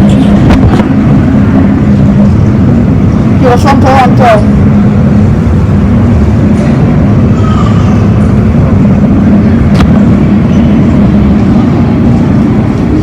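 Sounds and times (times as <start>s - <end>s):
jet engines rumbling: 0.0s - 13.0s
steady hum: 0.0s - 13.0s.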